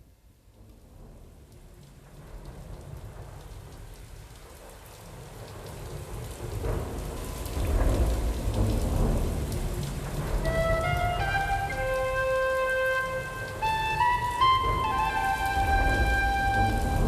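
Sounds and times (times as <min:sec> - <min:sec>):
steady rain falling: 0:00.0 - 0:17.0
low rumble of thunder: 0:00.3 - 0:17.0.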